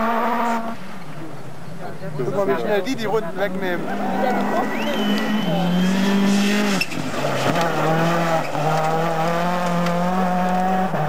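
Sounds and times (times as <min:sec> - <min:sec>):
rally car engines revving: 0:00.0 - 0:11.0.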